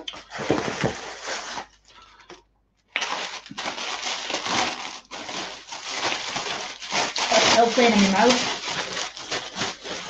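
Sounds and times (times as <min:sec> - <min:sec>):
paper packaging crinkling: 0:00.1 - 0:01.8, 0:03.0 - 0:10.0.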